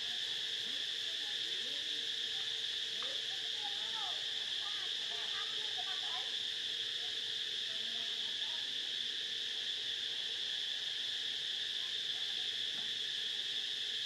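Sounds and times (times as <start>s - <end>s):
shrill insect chorus: 0.0s - 14.0s.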